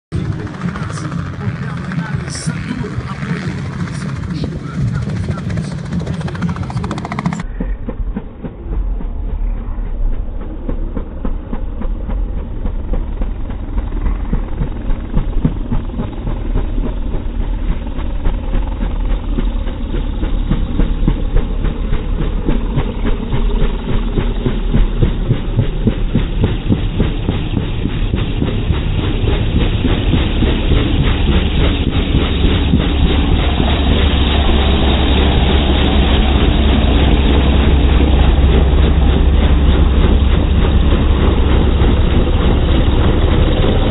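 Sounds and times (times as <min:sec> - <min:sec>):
helicopter rotor chopping: 0:00.1 - 0:43.9.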